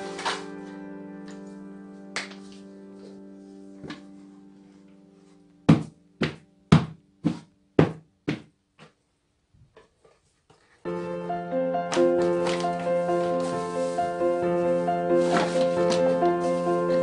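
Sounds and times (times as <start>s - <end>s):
background music: 0.0s - 7.7s, 10.9s - 17.0s.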